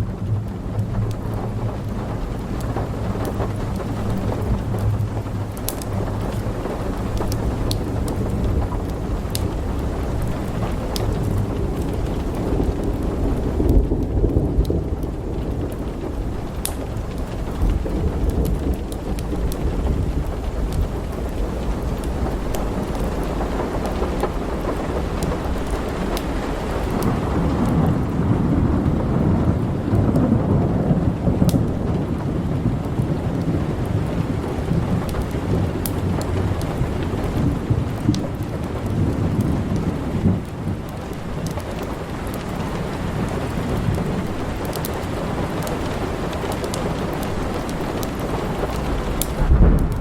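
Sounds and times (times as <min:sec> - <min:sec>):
low roll of thunder: 0:00.0 - 0:50.0
steady rain: 0:00.0 - 0:50.0
wood fire crackling: 0:00.0 - 0:50.0.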